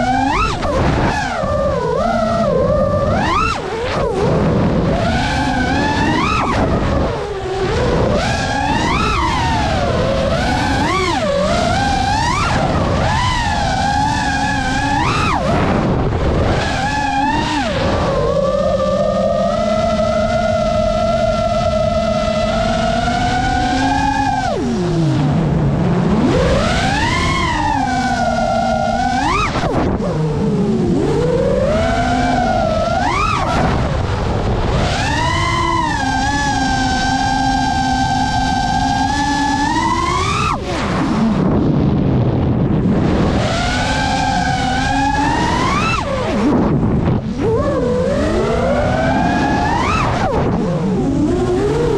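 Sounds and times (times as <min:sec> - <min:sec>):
quadcopter motors whining: 0:00.0 - 0:51.9
steady rushing noise: 0:00.0 - 0:51.9.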